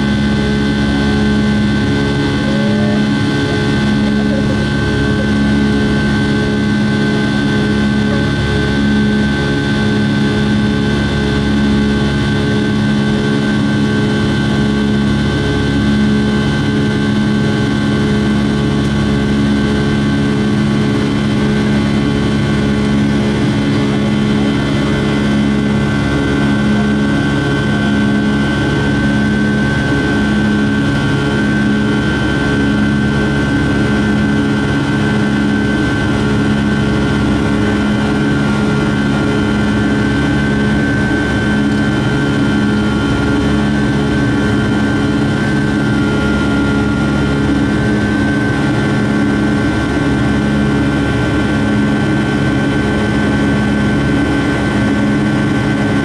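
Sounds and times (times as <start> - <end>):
high-pitched humming tone: 0.0 - 51.5
jet engine drone in cabin: 0.0 - 56.0.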